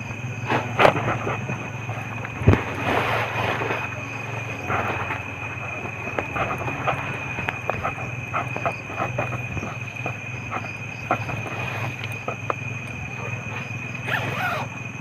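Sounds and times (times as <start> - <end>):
cricket trilling: 0.0 - 15.0
crickets eating with clicks: 0.0 - 15.0.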